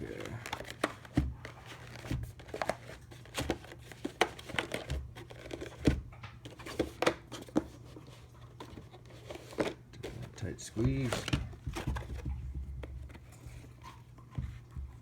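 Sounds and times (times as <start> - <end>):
packaging rustling and scraping: 0.0 - 15.0.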